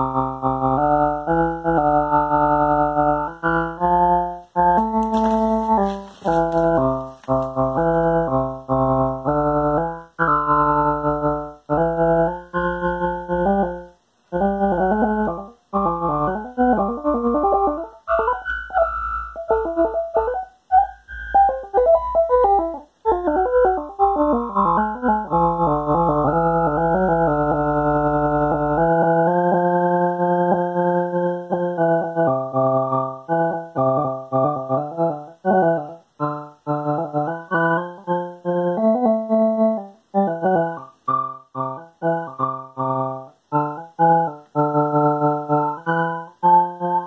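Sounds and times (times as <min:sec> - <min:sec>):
sequenced synth notes: 0:00.0 - 0:47.0.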